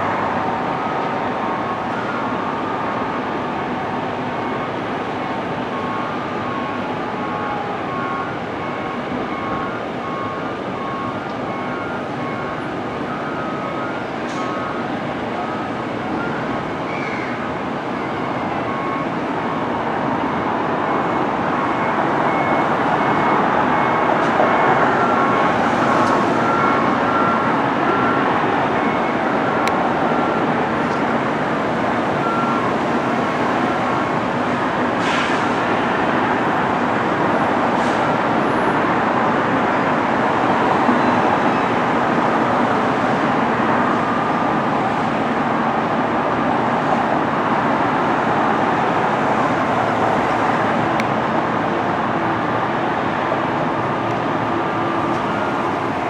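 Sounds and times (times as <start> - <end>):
vehicle traffic noise: 0.0 - 56.0.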